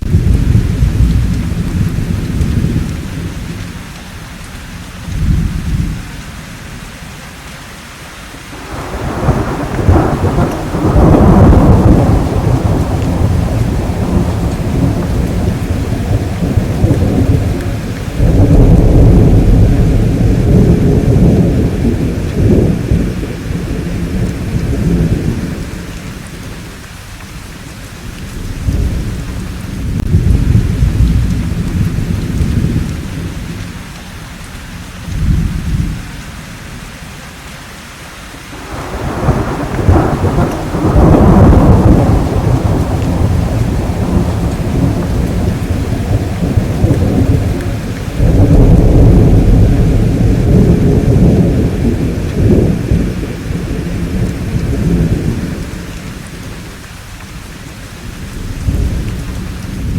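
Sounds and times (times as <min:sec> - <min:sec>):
thunder rumbling: 0:00.0 - 0:06.9, 0:08.6 - 0:36.8, 0:38.5 - 0:59.9
steady rain: 0:00.0 - 0:59.9.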